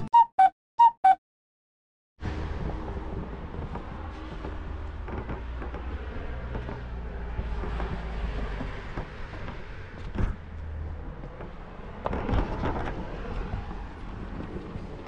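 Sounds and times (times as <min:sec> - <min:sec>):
road traffic rumble: 0:02.2 - 0:15.0.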